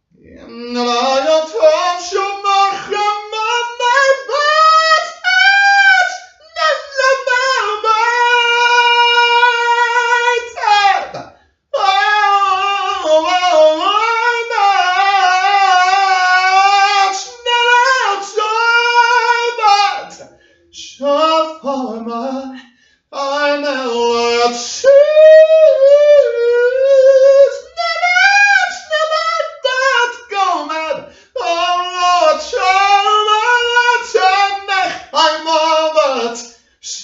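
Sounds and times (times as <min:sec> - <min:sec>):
high voice singing a chant: 0:00.0 - 0:37.0.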